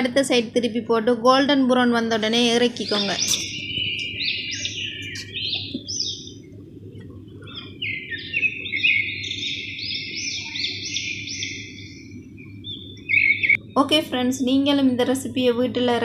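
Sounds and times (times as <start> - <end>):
birds chirping: 1.8 - 16.0.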